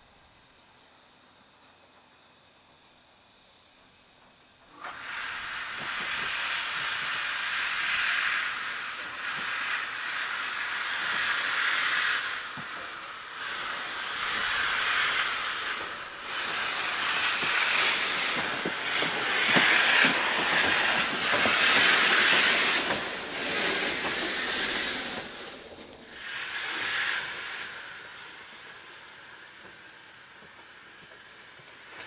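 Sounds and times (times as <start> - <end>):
steam hissing in surges: 0.0 - 32.0
steam locomotive moving slowly: 0.0 - 32.0.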